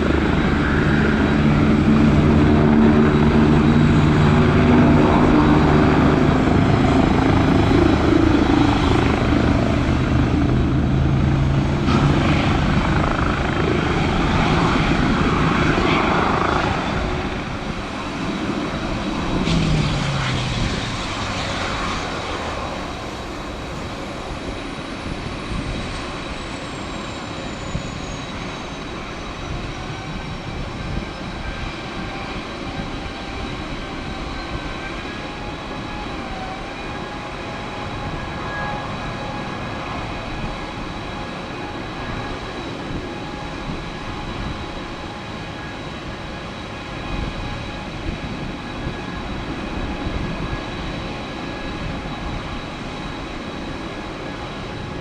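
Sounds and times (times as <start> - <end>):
jet engines roaring and whining: 0.0 - 55.0.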